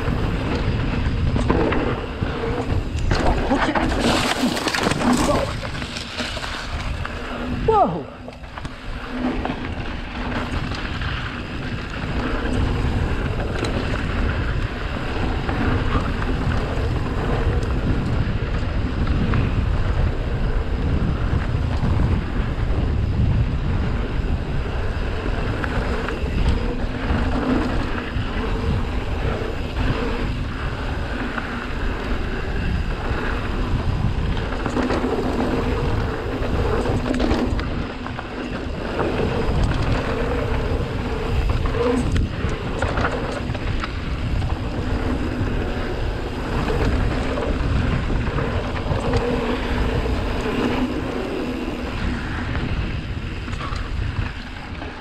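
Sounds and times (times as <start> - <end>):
tyres rumbling on trail: 0.0 - 55.0
wind buffeting microphone: 0.0 - 55.0.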